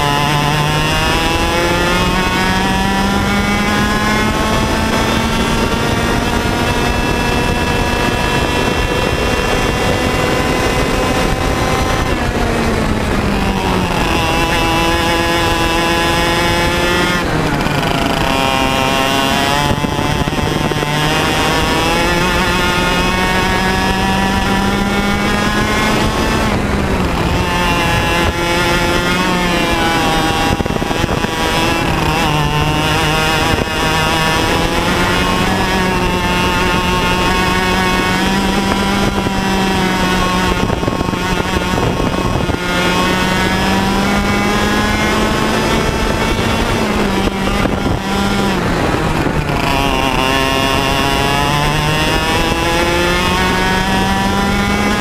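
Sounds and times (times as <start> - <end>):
kart two-stroke engine: 0.0 - 55.0.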